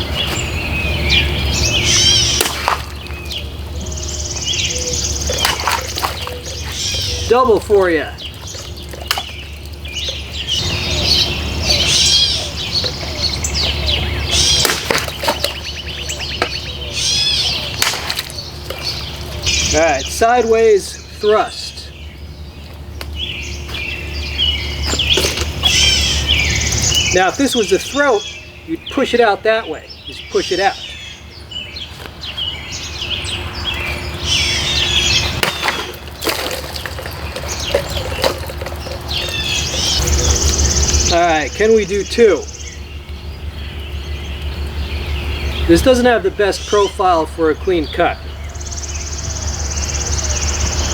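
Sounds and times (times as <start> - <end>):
songbirds chirping and singing: 0.0 - 50.9
fast rattling bird trill: 0.7 - 31.3, 32.7 - 50.9.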